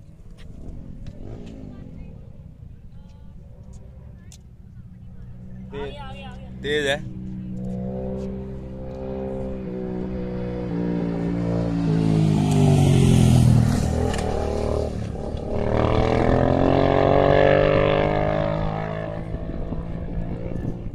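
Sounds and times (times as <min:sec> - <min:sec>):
motorcycle engine accelerating: 0:00.0 - 0:20.9.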